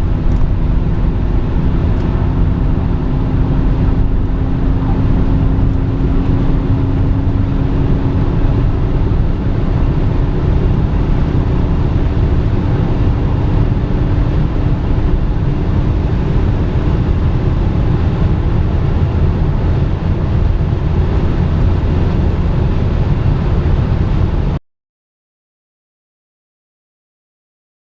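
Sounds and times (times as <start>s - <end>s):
diesel engine drone: 0.0s - 24.6s
wind and tyre noise: 0.0s - 24.6s.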